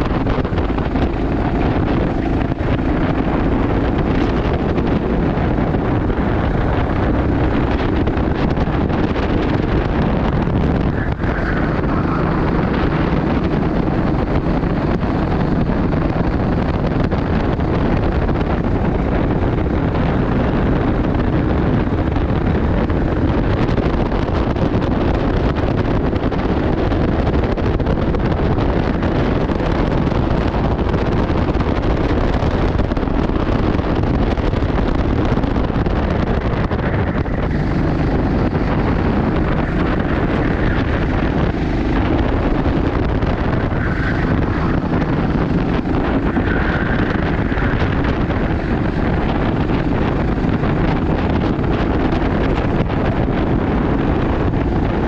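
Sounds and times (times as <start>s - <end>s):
racing kart engine running: 0.0s - 55.0s
wind buffeting on microphone: 0.0s - 55.0s.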